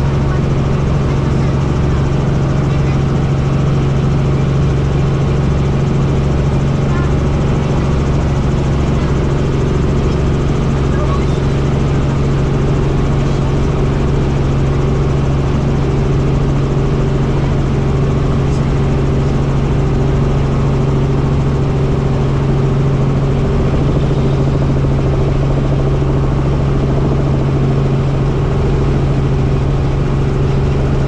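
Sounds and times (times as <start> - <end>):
helicopter engine and rotor drone: 0.0 - 31.0.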